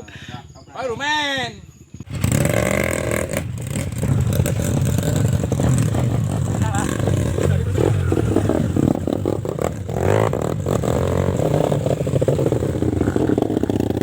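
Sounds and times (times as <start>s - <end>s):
motorcycle engine revving: 0.3s - 14.0s.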